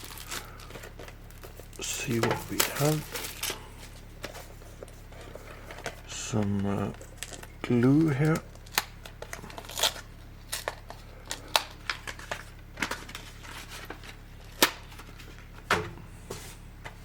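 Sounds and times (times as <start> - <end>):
hands opening plastic packaging: 0.0 - 3.6, 4.2 - 15.5.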